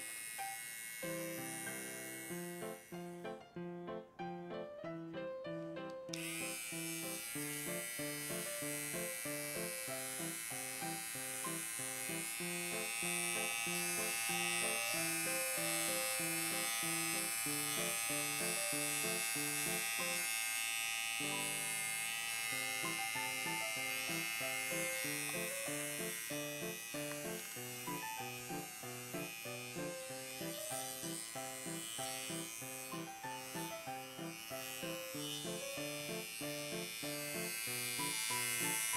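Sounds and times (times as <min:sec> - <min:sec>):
pet hair clipper buzzing: 0:00.0 - 0:03.2, 0:05.9 - 0:38.9.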